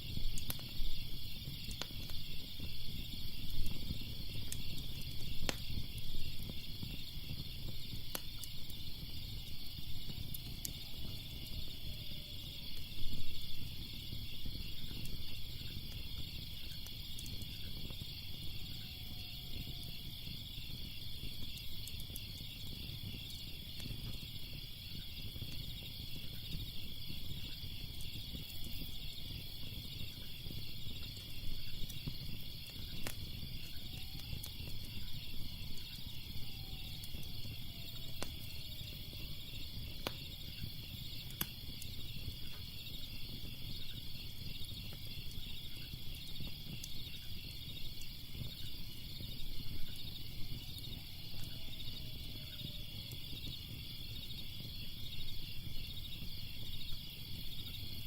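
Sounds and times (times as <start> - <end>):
crickets chirping: 0.0 - 58.0
fire crackling and popping: 0.0 - 58.0.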